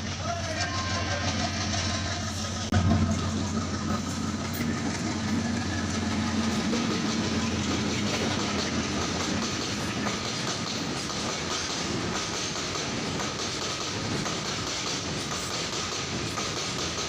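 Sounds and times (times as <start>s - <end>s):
train rumbling on rails: 0.0s - 17.0s
wheels clacking over rail joints: 0.0s - 17.0s.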